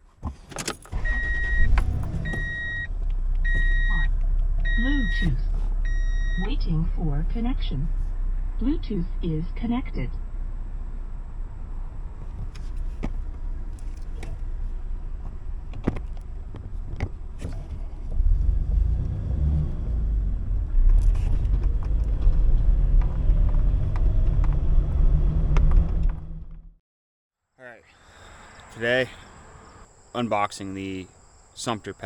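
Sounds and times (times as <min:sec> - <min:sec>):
car engine rumble from inside: 0:00.9 - 0:26.8.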